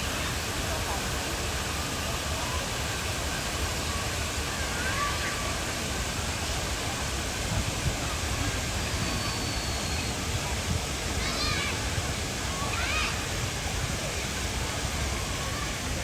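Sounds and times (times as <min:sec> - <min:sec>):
city ambient noise: 0:00.0 - 0:16.0.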